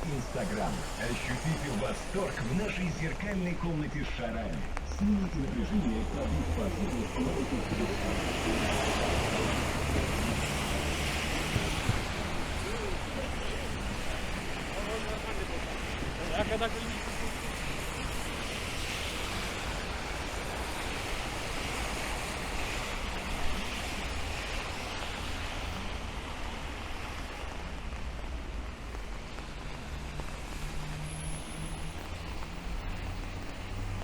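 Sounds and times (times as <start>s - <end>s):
steady rain: 0.0s - 34.0s
traffic on wet streets: 0.0s - 34.0s
vehicle engine hum: 0.0s - 34.0s.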